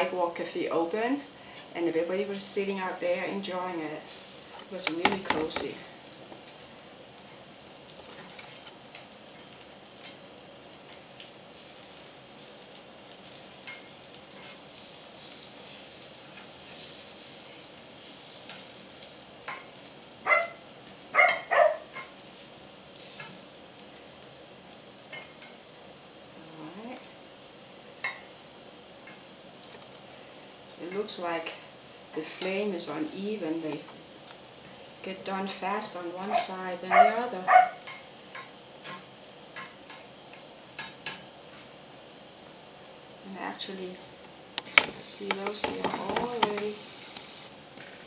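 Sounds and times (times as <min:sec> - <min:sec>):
batter frying: 0:00.0 - 0:48.0.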